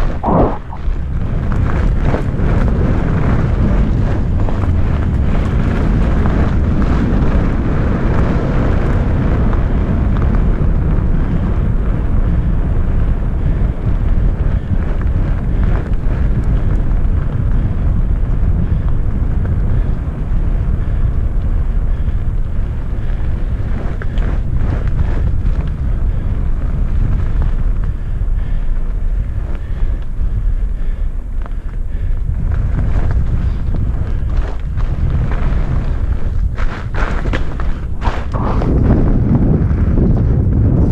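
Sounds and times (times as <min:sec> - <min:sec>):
wheels rolling on gravel: 0:00.0 - 0:40.9
wind noise on microphone: 0:00.0 - 0:40.9.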